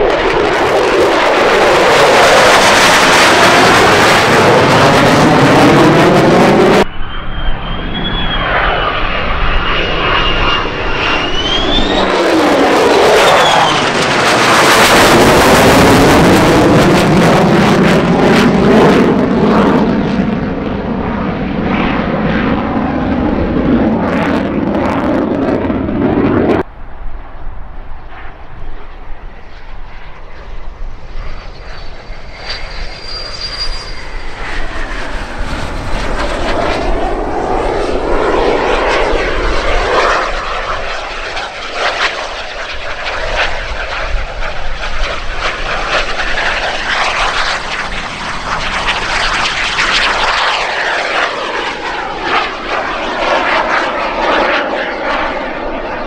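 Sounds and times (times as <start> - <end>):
small airplane engine: 0.0 - 56.0.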